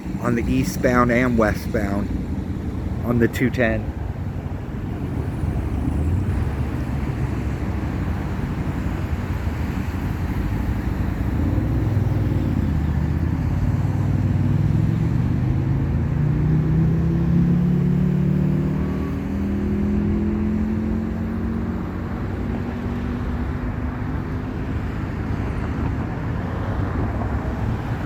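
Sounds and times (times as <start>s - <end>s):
freeway traffic noise: 0.0s - 28.0s
vehicle engine hum: 0.0s - 28.0s.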